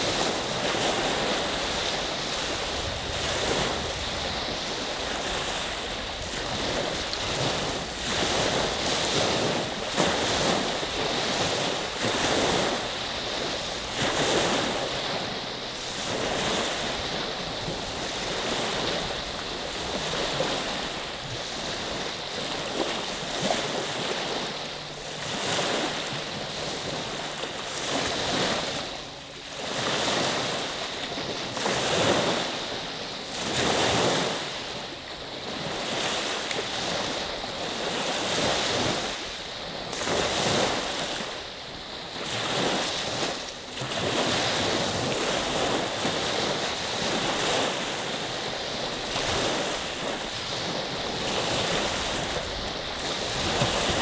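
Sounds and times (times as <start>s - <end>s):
small waves washing onto beach: 0.0s - 54.0s.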